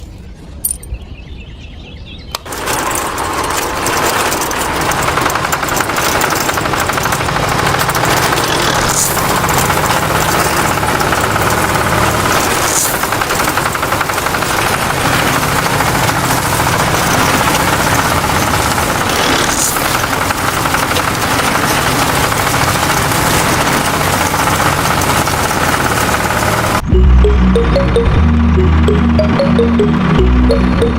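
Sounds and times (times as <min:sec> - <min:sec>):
small tractor motor running: 0:02.4 - 0:30.9.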